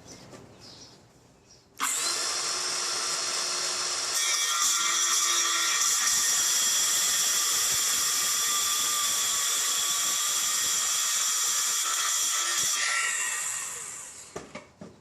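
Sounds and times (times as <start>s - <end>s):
circular saw cutting a board: 1.8s - 14.4s.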